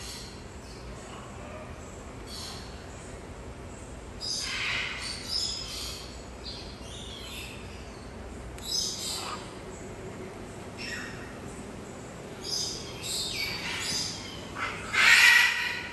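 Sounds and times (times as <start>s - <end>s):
birds calling: 0.0s - 15.9s.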